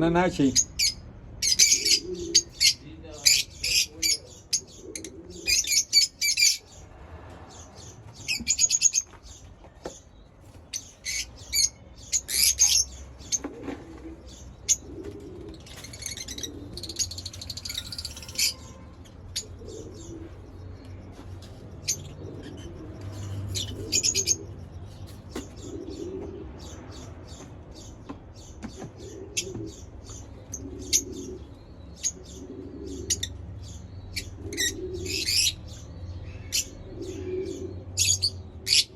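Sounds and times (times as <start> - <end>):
lovebirds chirping shrilly: 0.3 - 6.9, 7.5 - 38.9.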